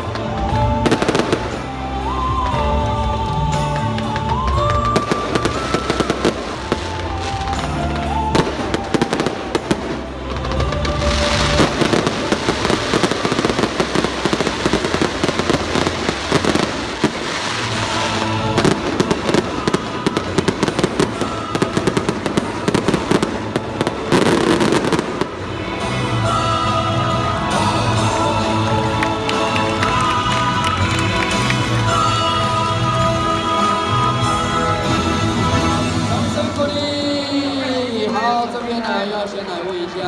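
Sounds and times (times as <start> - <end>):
fireworks bangs and crackling: 0.0 - 37.8
music: 0.0 - 40.0.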